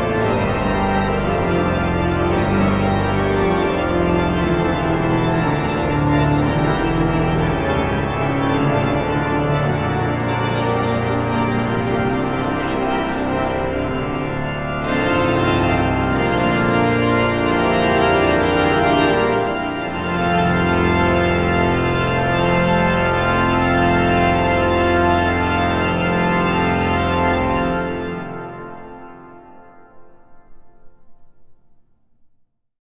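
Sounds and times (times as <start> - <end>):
pipe organ chords: 0.0 - 31.2.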